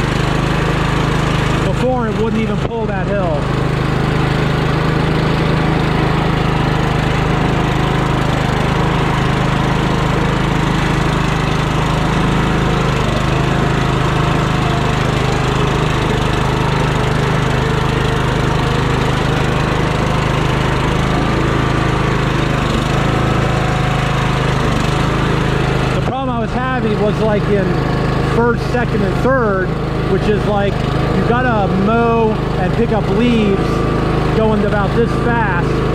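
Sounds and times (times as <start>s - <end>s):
lawn tractor engine running: 0.0s - 35.9s.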